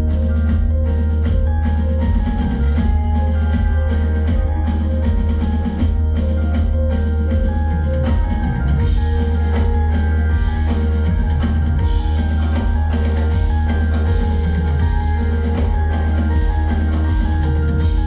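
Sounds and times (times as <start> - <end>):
live band playing instrumental: 0.0 - 18.0.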